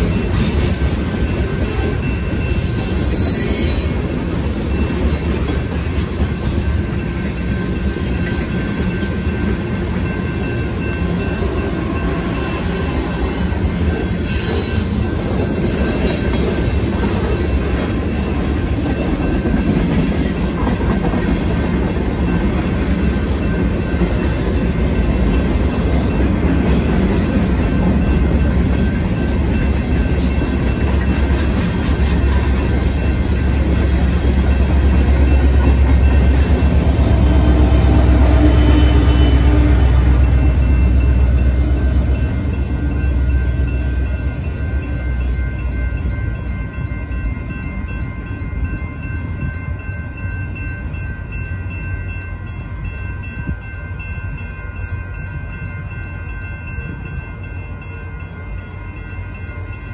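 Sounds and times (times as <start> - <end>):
crossing signal bells ringing: 0.0 - 59.9
freight train cars rolling: 0.0 - 59.9.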